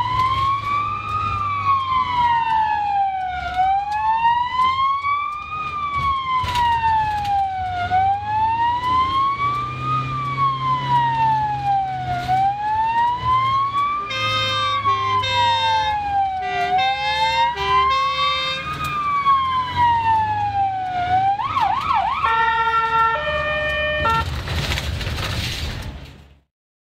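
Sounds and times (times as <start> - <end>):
second siren stepped tones: 0.0 - 24.6
ambulance siren wailing: 0.0 - 24.8.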